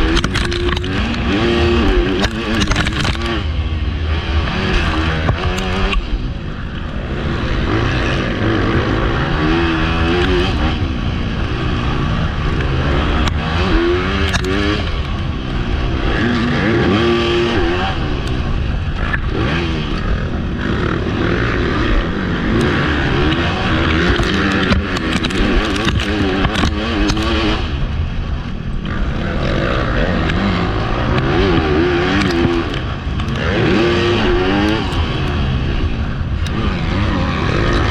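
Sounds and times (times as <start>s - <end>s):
motocross bike engine revving: 0.0s - 37.9s
wind rush on microphone: 0.0s - 37.9s.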